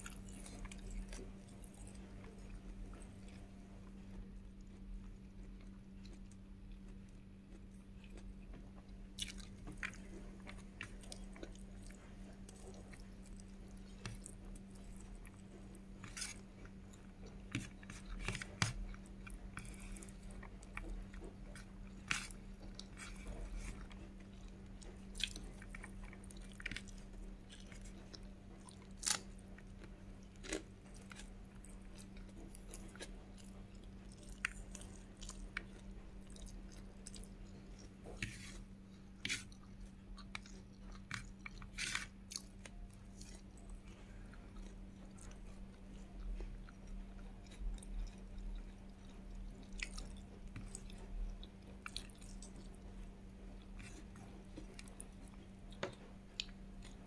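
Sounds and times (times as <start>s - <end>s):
chewing with crunches: 0.0s - 57.0s
faint steady hum: 0.0s - 57.0s.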